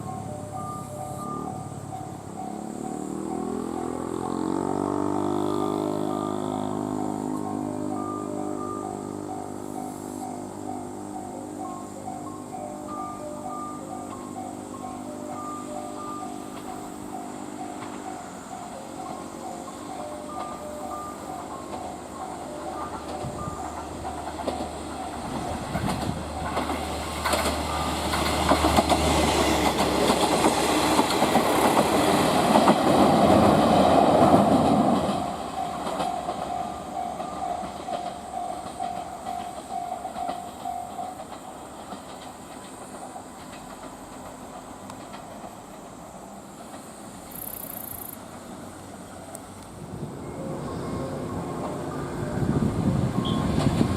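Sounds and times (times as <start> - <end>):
train wheels clicking over rail joints: 0.0 - 50.2, 51.0 - 53.9
steady train tone: 0.0 - 53.9.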